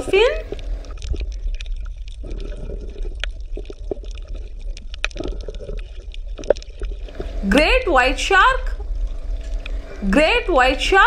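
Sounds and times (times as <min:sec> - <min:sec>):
steady low rumble: 0:00.0 - 0:05.1, 0:05.9 - 0:11.0
water splashing and sloshing: 0:00.0 - 0:11.0.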